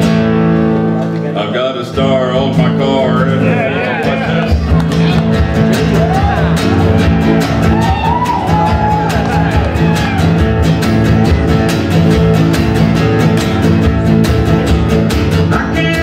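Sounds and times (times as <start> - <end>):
classical guitar strumming: 0.0 - 16.0.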